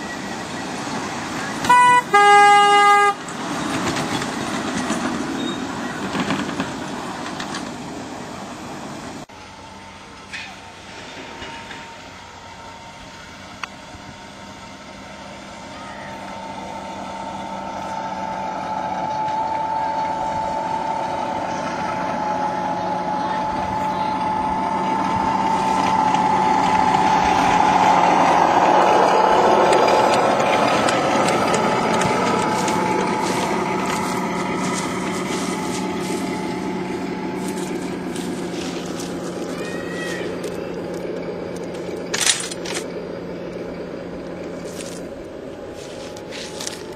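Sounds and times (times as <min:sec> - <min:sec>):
miniature locomotive whine: 0:00.0 - 0:46.9.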